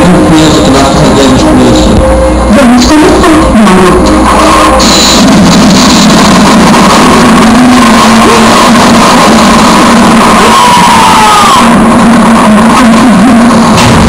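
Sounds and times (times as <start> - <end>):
distorted soundtrack over loudspeakers: 0.0 - 14.0.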